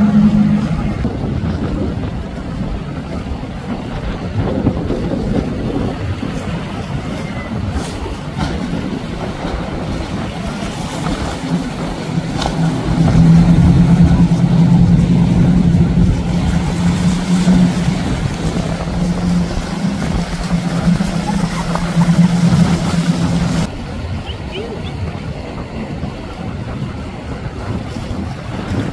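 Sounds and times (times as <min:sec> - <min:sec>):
speedboat engine drone: 0:00.0 - 0:28.9
water rushing and spray: 0:00.0 - 0:28.9.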